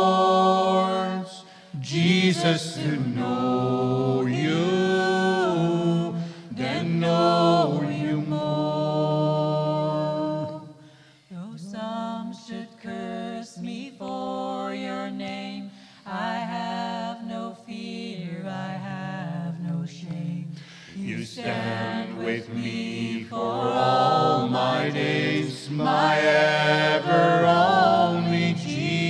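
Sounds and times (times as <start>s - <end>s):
group singing a cappella: 0.0s - 29.0s.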